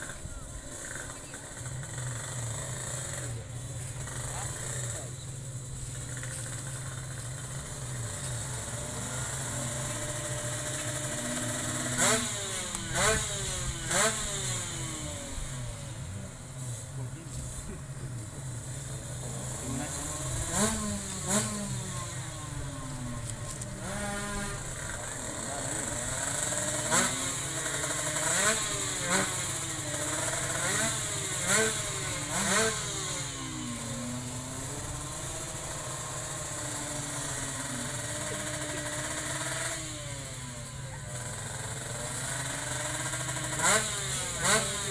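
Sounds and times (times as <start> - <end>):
low engine hum: 0.0 - 41.9
two-stroke engine revving: 0.0 - 44.9.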